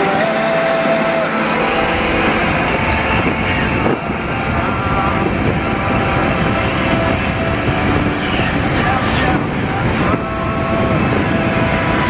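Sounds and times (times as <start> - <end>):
road noise: 0.0 - 12.0
wind noise: 0.0 - 12.0.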